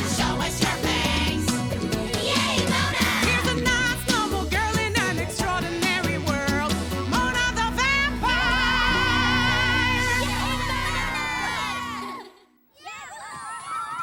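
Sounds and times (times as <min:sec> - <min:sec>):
upbeat cartoon theme song: 0:00.0 - 0:12.3.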